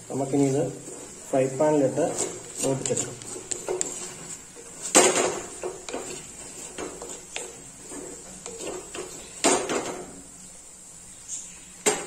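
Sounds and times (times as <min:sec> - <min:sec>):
wooden spatula scraping a pot: 0:00.0 - 0:10.2.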